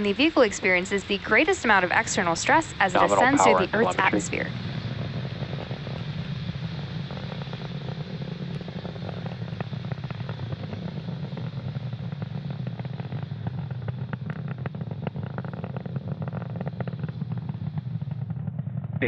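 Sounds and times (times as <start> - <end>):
rocket engines rumbling and crackling: 0.0 - 19.0.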